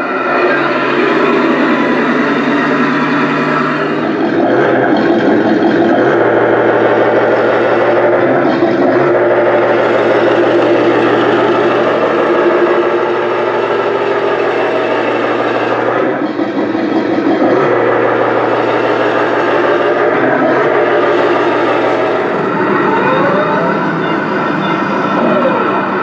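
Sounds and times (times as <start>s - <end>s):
toy vehicle engine sound: 0.0s - 26.0s.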